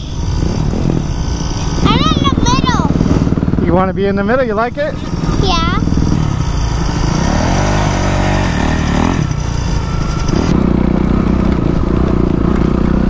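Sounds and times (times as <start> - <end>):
dirt bike engines: 0.0 - 13.0.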